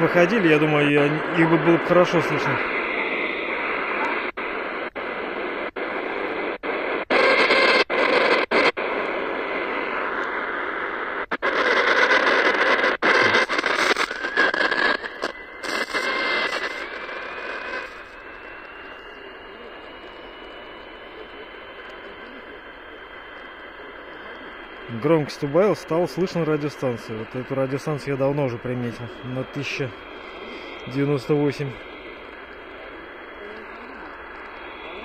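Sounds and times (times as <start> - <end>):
radio static and hiss: 0.0 - 35.0.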